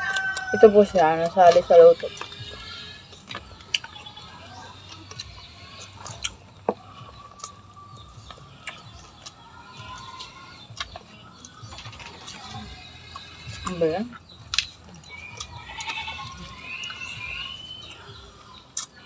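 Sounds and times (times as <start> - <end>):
chewing crunches: 0.0 - 19.0
faint background chirping: 0.0 - 19.0.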